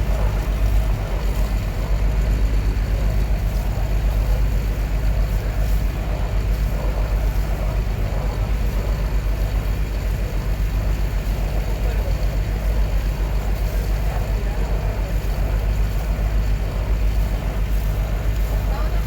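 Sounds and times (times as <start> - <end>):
ferry engine rumble: 0.0 - 19.0.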